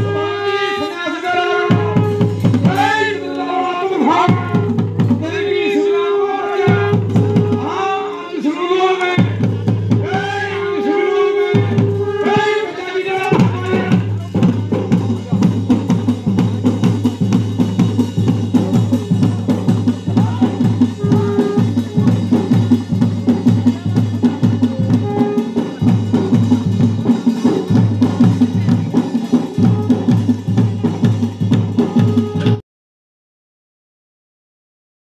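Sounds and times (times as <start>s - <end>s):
drums playing fast beat: 0.0s - 32.6s.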